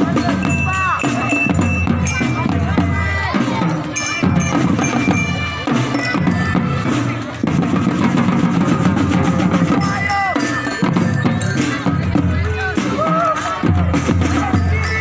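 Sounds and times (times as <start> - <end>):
crowd voices: 0.0 - 15.0
marching drum band playing: 0.0 - 15.0.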